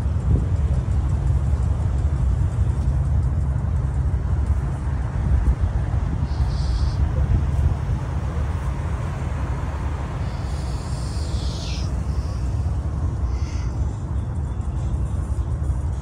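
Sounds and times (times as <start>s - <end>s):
vehicle engines rumbling: 0.0s - 16.0s.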